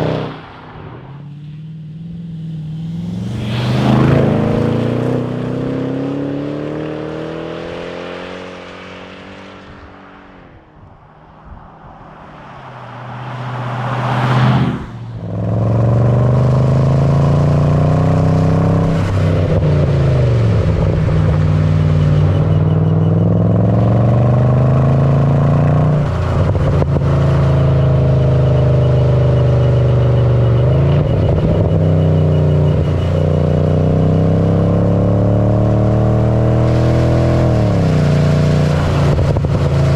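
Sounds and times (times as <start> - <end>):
car engine accelerating: 0.0 - 10.8, 11.9 - 39.9.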